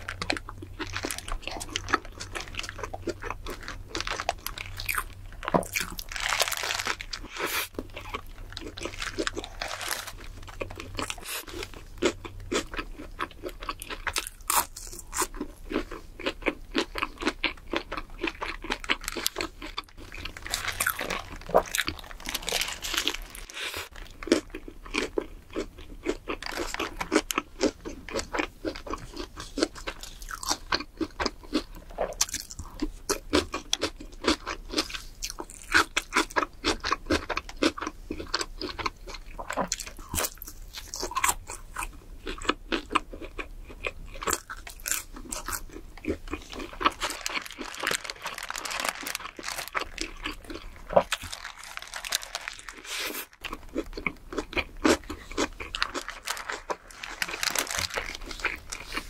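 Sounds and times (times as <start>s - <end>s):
chewing with clicks and crunches: 0.0s - 59.0s.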